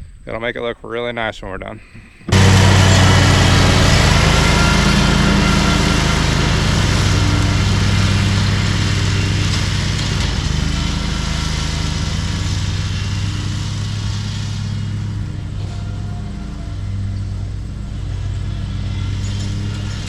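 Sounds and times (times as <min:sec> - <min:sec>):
lawn mower engine running: 0:02.3 - 0:20.0
mower deck mulching grass: 0:02.3 - 0:20.0.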